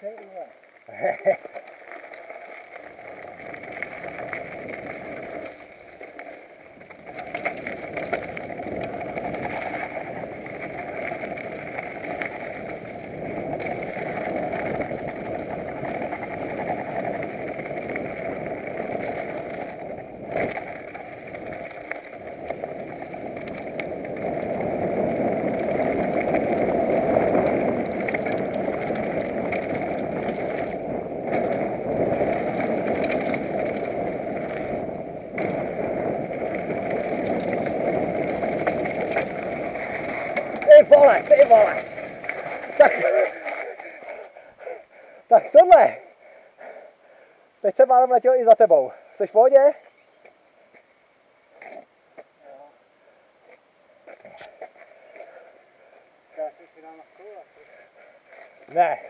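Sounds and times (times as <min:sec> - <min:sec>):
bike rattling over bumps: 0:00.0 - 0:49.8, 0:53.4 - 0:59.0
wind and tyre noise: 0:00.0 - 0:59.0.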